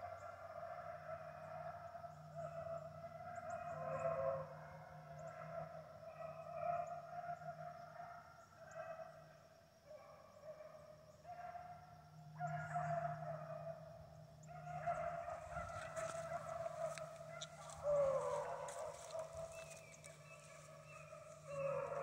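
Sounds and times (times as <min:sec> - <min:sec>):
hounds baying: 0:00.0 - 0:09.3, 0:09.9 - 0:22.0.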